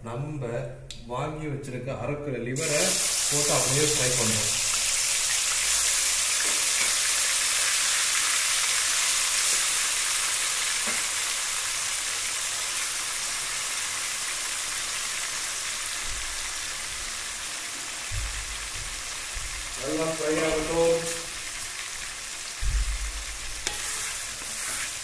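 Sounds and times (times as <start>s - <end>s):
liver sizzling in hot oil: 2.6s - 25.0s.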